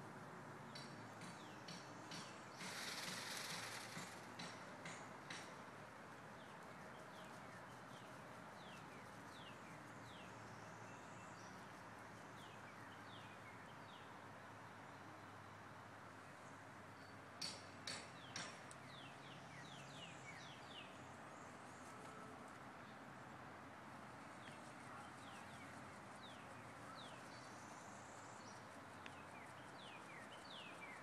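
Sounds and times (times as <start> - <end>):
birds chirping: 0.7 - 5.6, 6.4 - 14.1, 16.4 - 23.0, 24.2 - 31.0.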